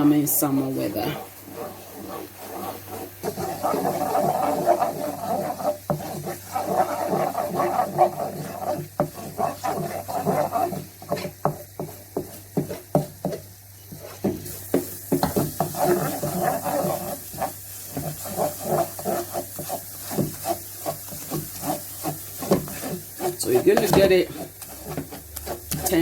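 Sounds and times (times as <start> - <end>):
utensil scraping sticky toffee in a pan: 0.0 - 26.0.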